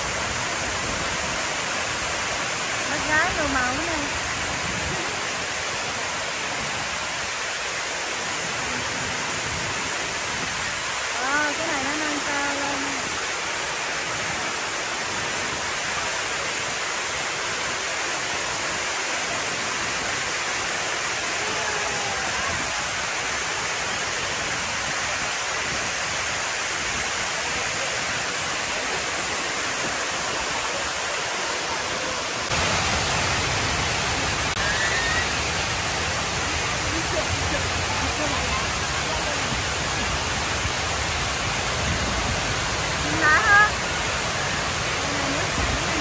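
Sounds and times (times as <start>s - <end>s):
fountain water cascading and splashing: 0.0s - 46.0s.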